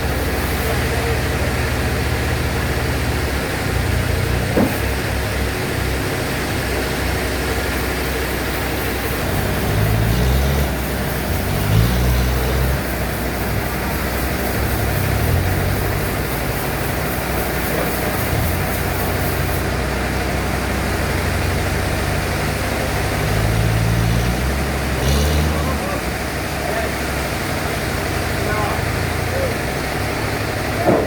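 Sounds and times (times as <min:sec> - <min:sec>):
bandsaw machinery droning: 0:00.0 - 0:31.0.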